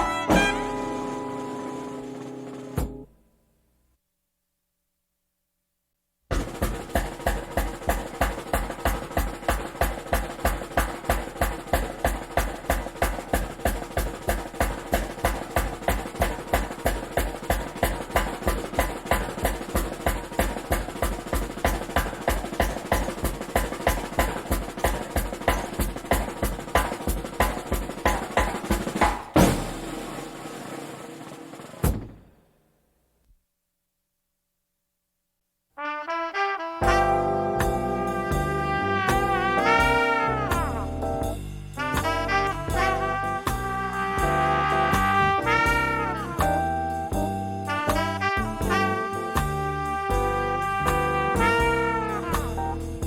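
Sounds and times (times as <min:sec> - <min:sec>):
snare and bass drum hits: 0:00.0 - 0:03.1, 0:06.3 - 0:32.4, 0:36.8 - 0:53.0.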